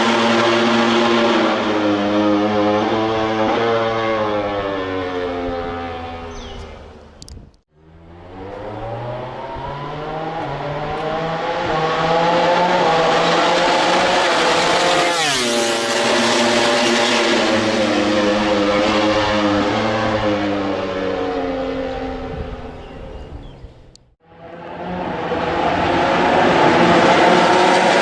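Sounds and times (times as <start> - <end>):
racing motorcycle passing by: 0.0 - 7.0, 7.8 - 23.1, 24.2 - 28.0.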